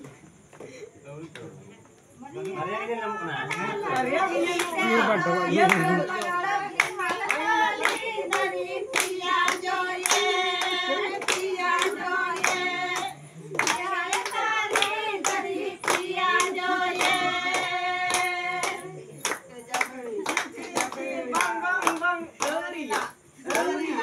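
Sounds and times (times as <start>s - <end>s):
women singing together: 2.4s - 24.0s
hand claps: 3.4s - 24.0s.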